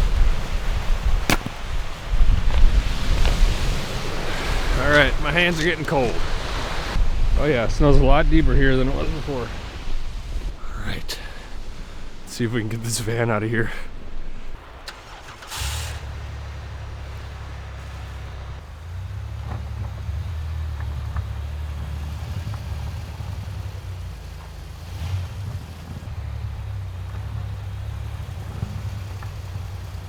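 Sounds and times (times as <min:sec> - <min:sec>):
van engine starting and idling: 0:00.0 - 0:08.0, 0:09.1 - 0:30.0.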